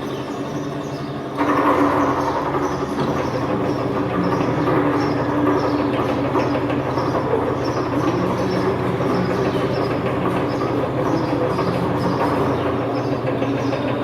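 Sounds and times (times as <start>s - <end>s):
metal lathe humming: 0.0s - 14.0s
light rhythmic clatter: 1.0s - 14.0s.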